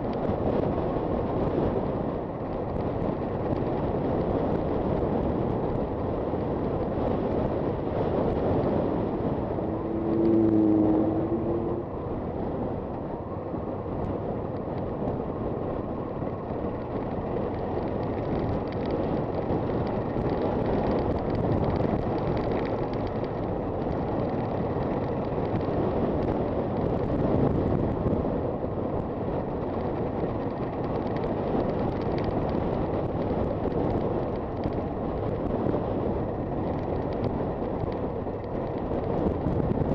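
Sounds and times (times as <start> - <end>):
road noise: 0.0 - 39.9
wind on microphone: 0.0 - 39.9.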